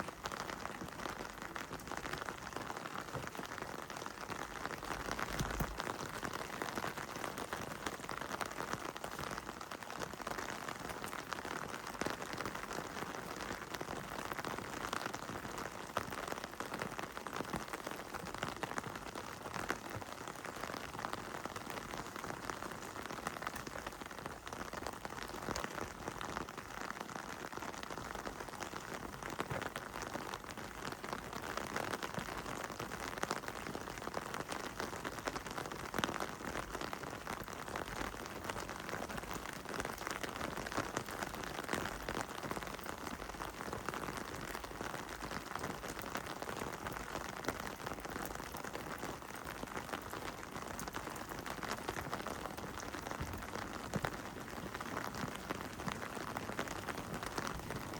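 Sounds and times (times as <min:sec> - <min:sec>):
heavy rain on hard surfaces: 0:00.0 - 0:57.9.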